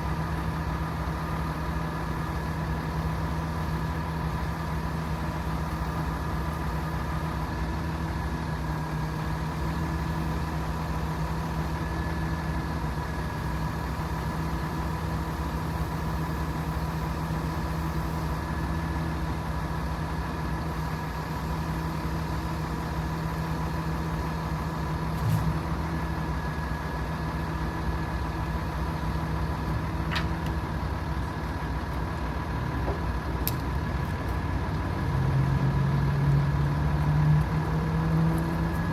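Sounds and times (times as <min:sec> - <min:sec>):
constant whine: 0:00.0 - 0:38.9
diesel truck engine running: 0:00.0 - 0:38.9.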